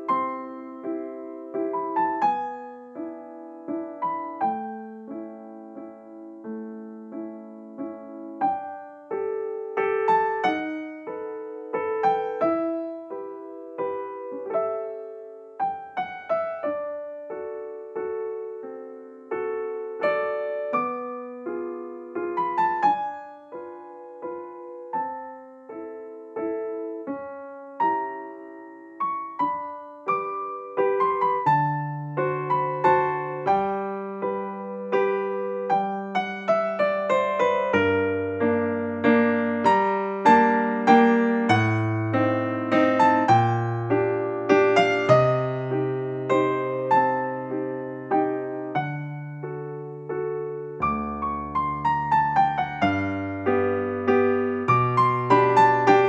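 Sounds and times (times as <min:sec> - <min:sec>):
gentle piano music: 0:00.0 - 0:56.0.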